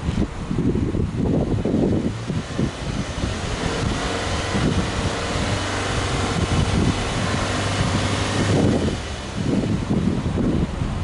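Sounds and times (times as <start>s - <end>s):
car engine running: 0.0s - 11.0s
wind on microphone: 0.0s - 11.0s.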